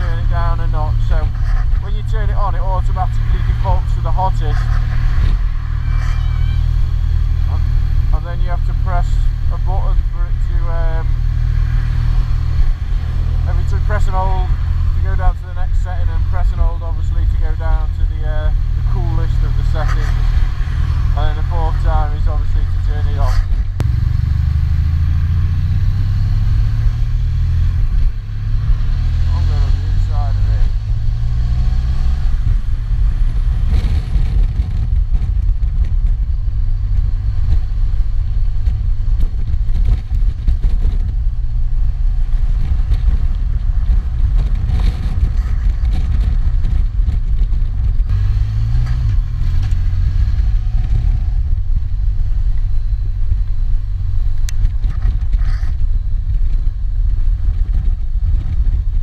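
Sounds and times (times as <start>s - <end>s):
motorcycle engine running: 0.0s - 59.0s
wind rumble: 0.0s - 59.0s.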